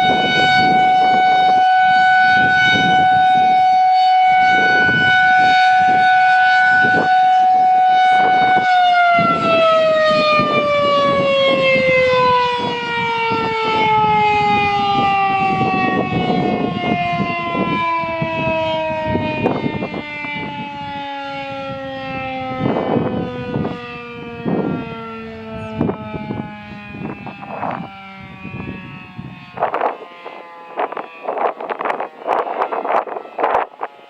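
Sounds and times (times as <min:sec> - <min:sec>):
warning siren winding down: 0:00.0 - 0:34.0.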